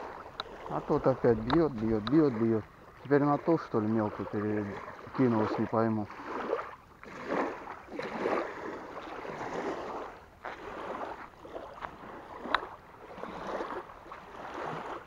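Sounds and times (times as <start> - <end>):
small waves lapping on shore: 0.0 - 15.0.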